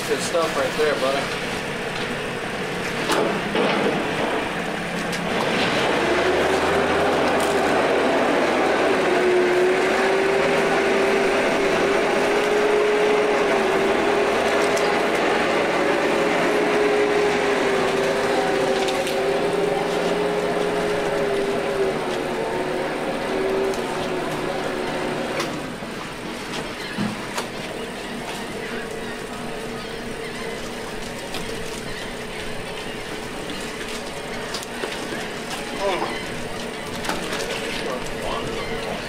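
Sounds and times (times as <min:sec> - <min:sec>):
motor humming: 0:00.0 - 0:39.0.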